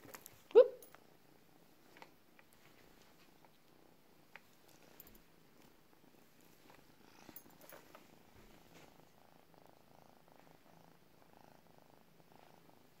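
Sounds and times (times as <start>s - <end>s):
cat purring: 0.9s - 13.0s.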